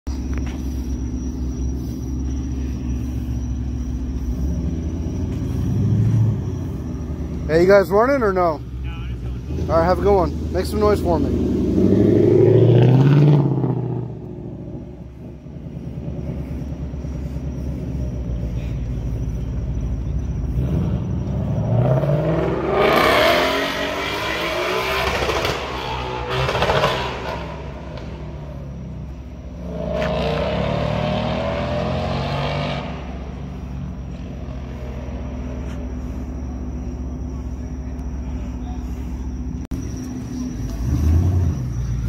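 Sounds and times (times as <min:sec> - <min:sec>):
car engine and exhaust: 0:00.0 - 0:42.0
low engine rumble: 0:00.1 - 0:30.2, 0:32.8 - 0:42.0.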